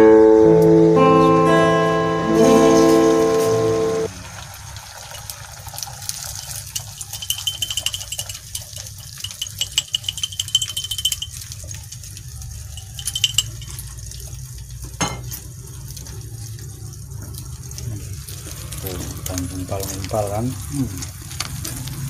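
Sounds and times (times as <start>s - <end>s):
egg sizzling in a frying pan: 4.1s - 22.0s.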